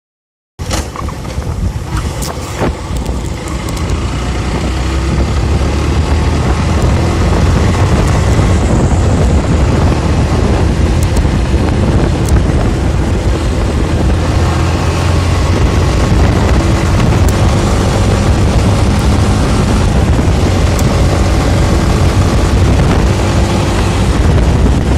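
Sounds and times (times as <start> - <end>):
moving vehicle rumble and wind: 0.6 - 24.9.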